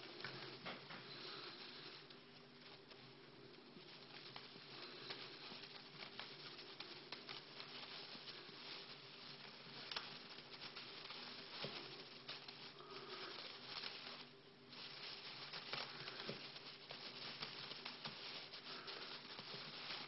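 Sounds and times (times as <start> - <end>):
steady low hum: 0.0 - 20.0
hamster scratching and clicking: 3.8 - 20.0.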